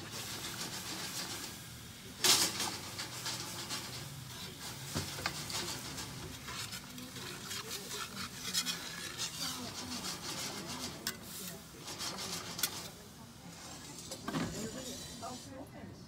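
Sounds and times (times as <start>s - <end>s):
utensil scraping a skillet: 0.0s - 15.6s
boiling sugar hissing: 0.0s - 15.8s.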